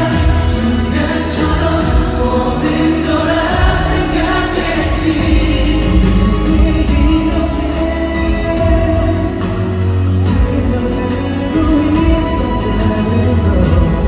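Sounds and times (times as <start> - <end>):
loud pop music with singing: 0.0 - 14.0.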